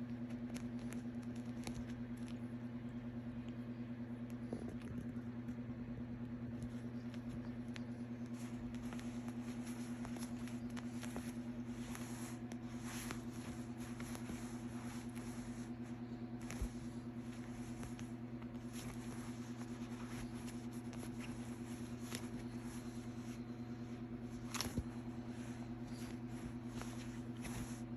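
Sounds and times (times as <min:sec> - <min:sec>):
cat purring: 0:04.0 - 0:27.9.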